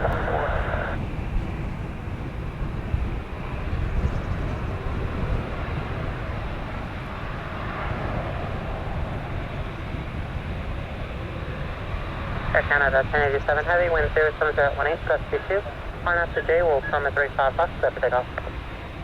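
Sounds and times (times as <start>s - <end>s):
jet engine noise: 0.0s - 19.0s
wind rumbling on microphone: 0.0s - 19.0s.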